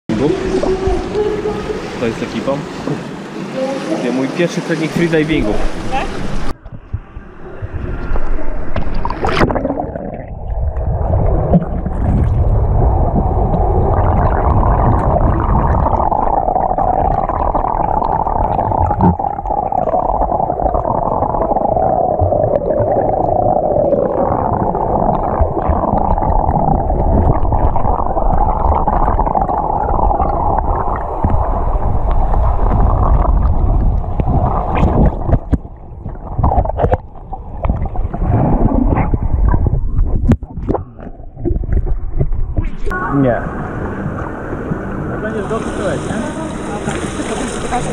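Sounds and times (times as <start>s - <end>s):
muffled underwater rumble: 0.1s - 2.8s, 5.3s - 47.9s
water splashing and bubbling: 0.1s - 47.9s.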